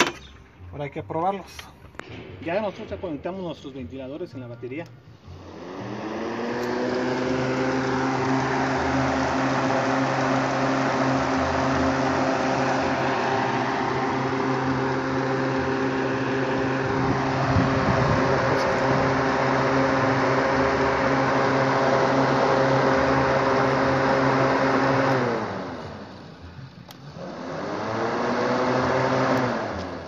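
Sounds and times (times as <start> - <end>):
electric cooling fans humming: 1.6 - 30.0.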